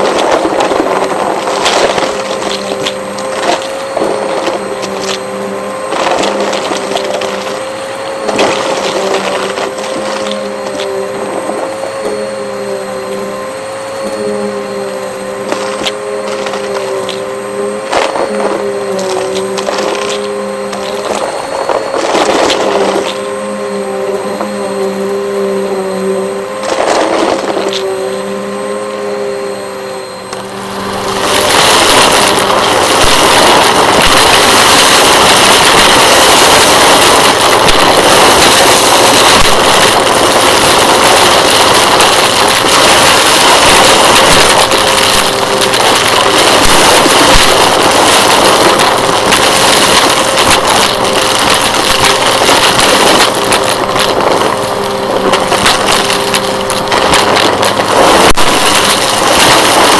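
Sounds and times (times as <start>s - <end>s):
debris crackling in vacuum: 0.0s - 59.9s
vacuum cleaner motor hum: 0.0s - 59.9s.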